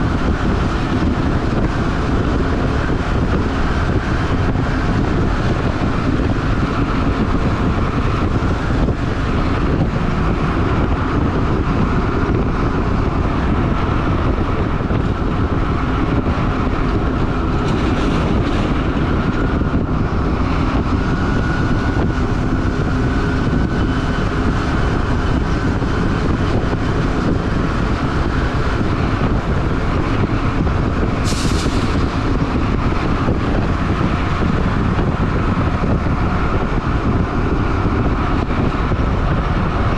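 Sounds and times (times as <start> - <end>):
road rumble: 0.0 - 39.9
truck diesel engine: 0.0 - 39.9.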